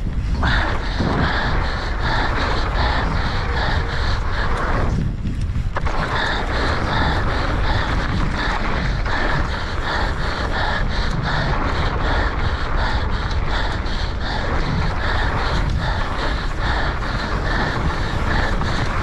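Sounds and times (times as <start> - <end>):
bike tyre rumble: 0.0 - 19.0
person panting heavily: 0.0 - 19.0
wind buffeting microphone: 0.0 - 19.0.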